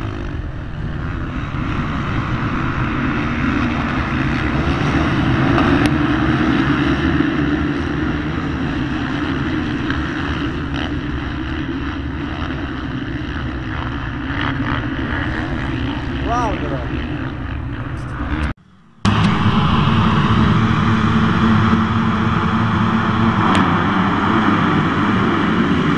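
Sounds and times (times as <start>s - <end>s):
dirt bike engines racing: 0.0s - 25.9s.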